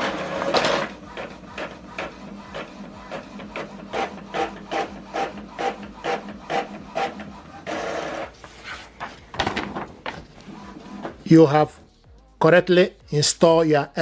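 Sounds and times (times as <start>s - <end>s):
printer carriage sweeping: 0.0s - 11.6s.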